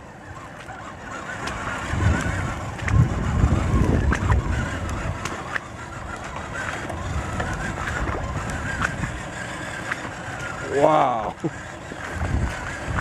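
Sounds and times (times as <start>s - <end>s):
electric motor whine: 0.0s - 13.0s
water churning around wheels: 0.0s - 13.0s.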